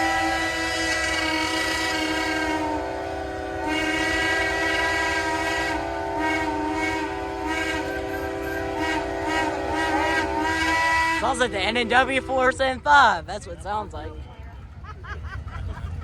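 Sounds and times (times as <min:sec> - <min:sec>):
steam whistles blowing: 0:00.0 - 0:12.8.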